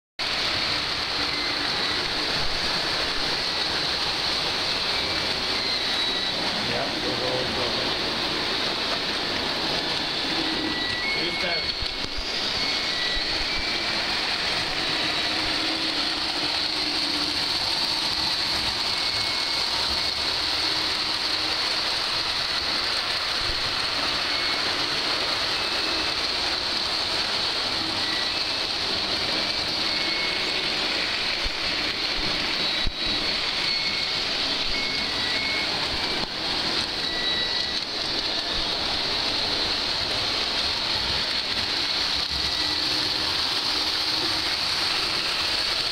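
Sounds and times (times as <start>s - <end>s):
toy train whirring rattle: 0.2s - 45.9s.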